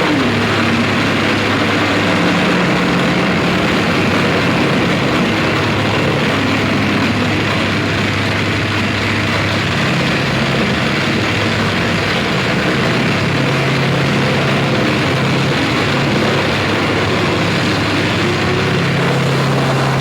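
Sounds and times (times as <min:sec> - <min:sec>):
dense distorted noise: 0:00.0 - 0:20.0
low steady drone: 0:00.0 - 0:20.0.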